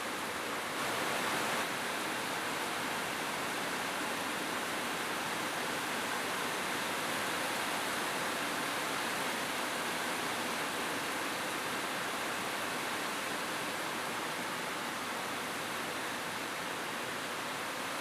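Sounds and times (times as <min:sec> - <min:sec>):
rain falling on a roof: 0:00.0 - 0:18.0.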